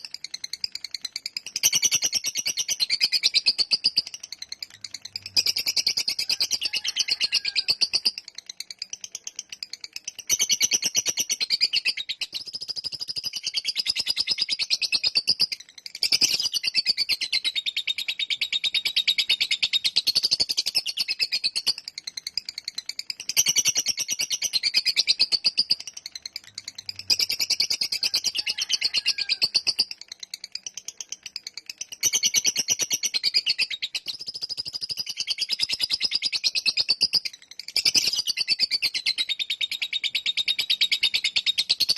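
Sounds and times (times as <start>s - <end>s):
bird chattering trill: 0.0s - 41.9s.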